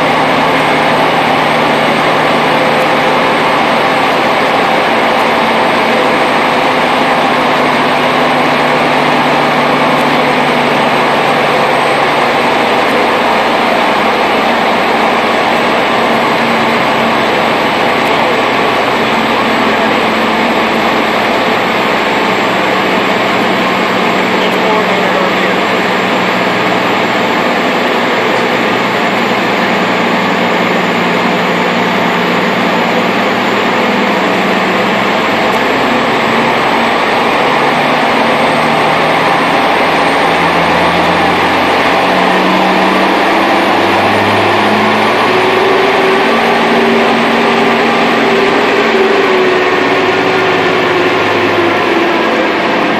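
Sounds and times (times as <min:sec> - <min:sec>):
diesel truck engine under load: 0:00.0 - 0:52.9.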